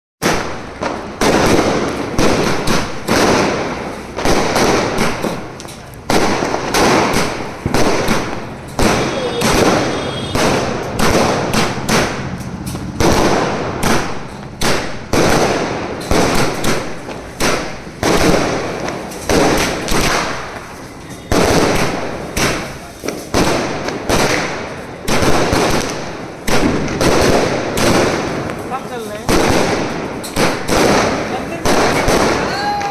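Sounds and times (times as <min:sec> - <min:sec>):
firecrackers banging: 0:00.2 - 0:32.9.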